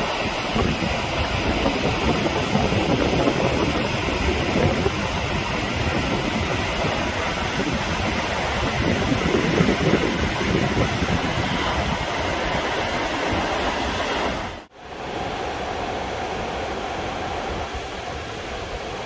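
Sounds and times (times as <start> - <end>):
water rushing over dam spillway: 0.0 - 19.0.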